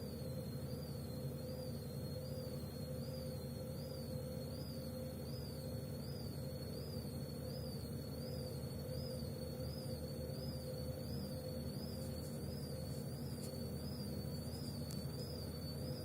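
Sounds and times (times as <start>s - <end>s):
washing machine running hum: 0.0s - 16.0s.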